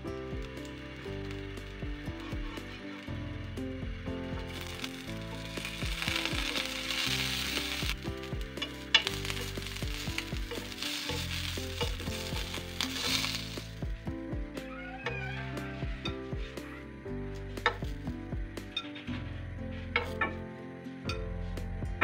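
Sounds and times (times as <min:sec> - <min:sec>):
sausages sizzling in oil: 0:00.0 - 0:18.8.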